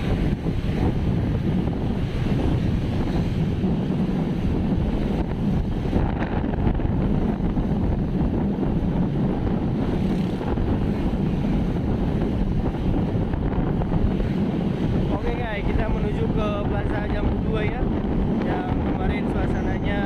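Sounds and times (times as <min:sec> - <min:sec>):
moving vehicle running noise: 0:00.0 - 0:20.0
wind buffeting microphone: 0:00.0 - 0:20.0.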